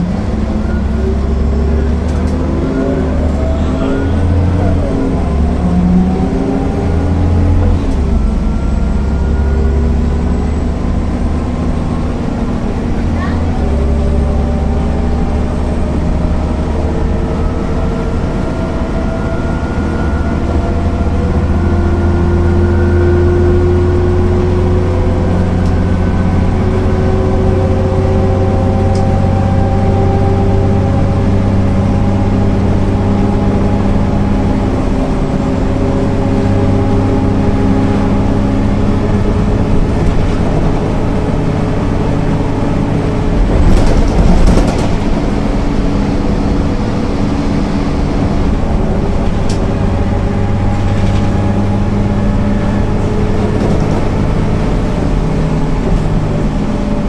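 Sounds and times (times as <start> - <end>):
bus diesel engine under load: 0.0 - 57.0.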